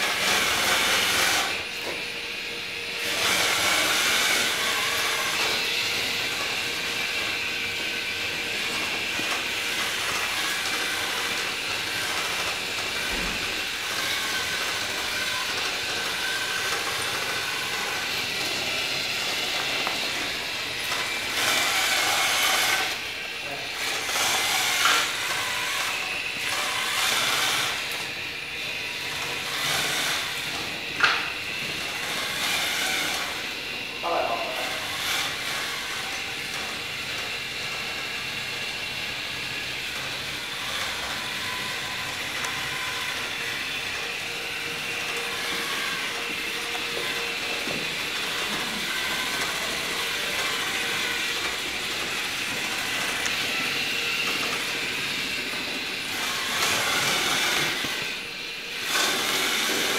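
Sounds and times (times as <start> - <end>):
robot motors and tracks running: 0.0 - 59.9.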